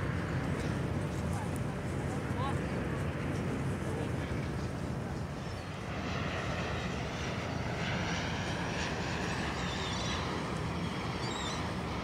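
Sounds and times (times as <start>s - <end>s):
turboprop plane droning: 0.0s - 12.0s.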